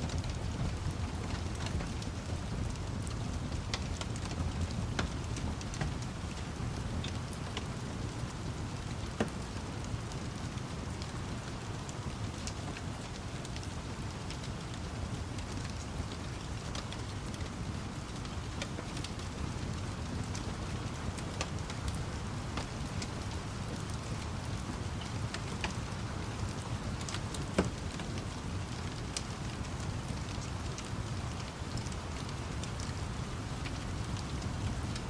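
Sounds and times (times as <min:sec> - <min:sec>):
rain falling: 0:00.0 - 0:35.0
wood fire crackling: 0:00.0 - 0:35.0.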